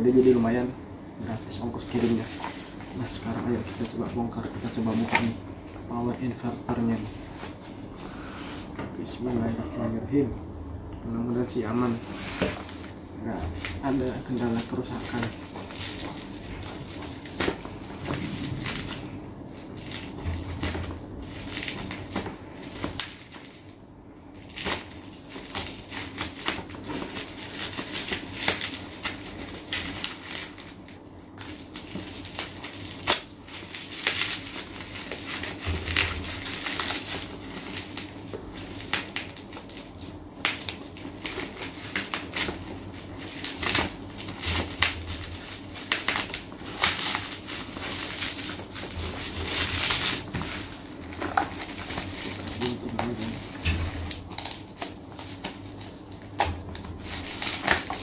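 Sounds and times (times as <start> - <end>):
plastic and bubble wrap crinkling: 0.0 - 10.3, 11.1 - 58.0.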